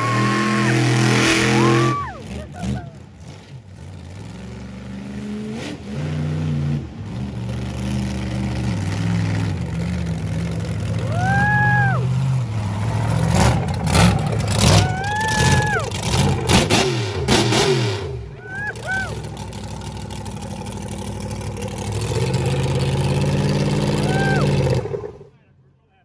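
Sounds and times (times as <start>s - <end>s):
monster truck engine running: 0.0s - 26.0s.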